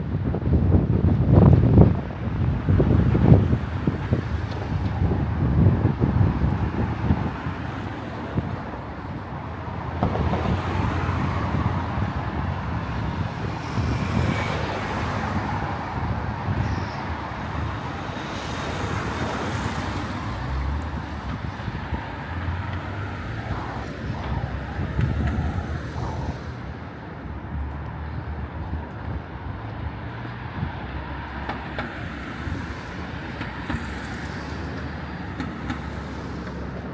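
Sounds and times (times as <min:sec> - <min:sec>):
cars passing by: 0:00.0 - 0:36.9
rumble of road vehicles: 0:00.0 - 0:36.9.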